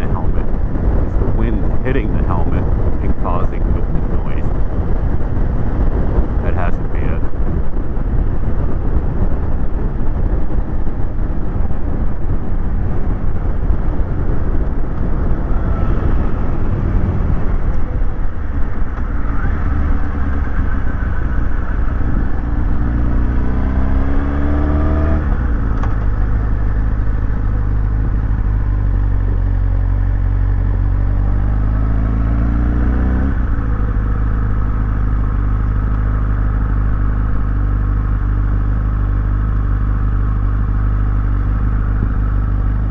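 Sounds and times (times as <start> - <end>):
motorcycle engine accelerating: 0.0 - 42.9
wind buffeting microphone: 0.0 - 42.9.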